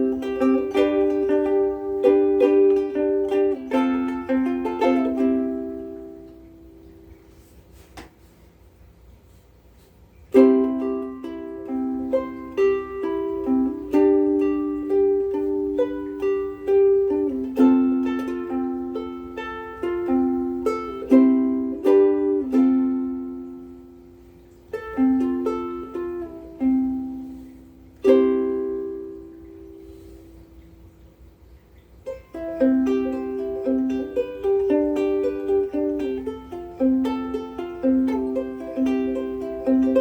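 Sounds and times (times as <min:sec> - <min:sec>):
ukulele plucked chords and notes: 0:00.0 - 0:08.3, 0:09.8 - 0:30.8, 0:31.9 - 0:40.0.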